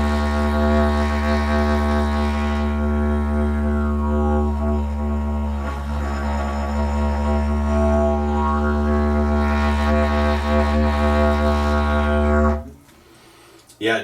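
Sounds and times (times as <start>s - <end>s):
didgeridoo drone: 0.0s - 12.7s.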